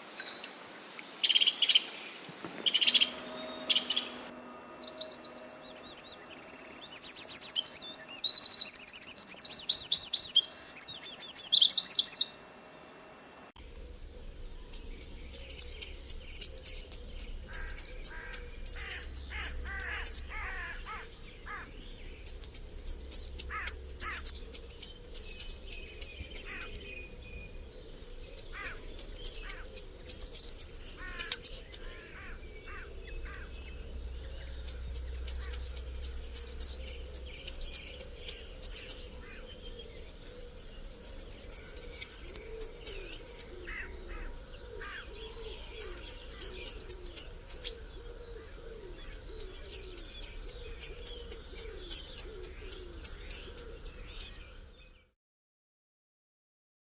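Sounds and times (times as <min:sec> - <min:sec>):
faint bird calls: 0:00.0 - 0:12.4, 0:13.6 - 0:54.9
songbird singing: 0:00.0 - 0:55.2.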